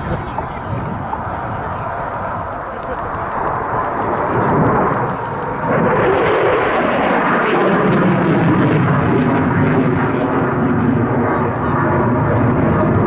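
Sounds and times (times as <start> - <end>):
jet engines roaring past: 0.0 - 13.0.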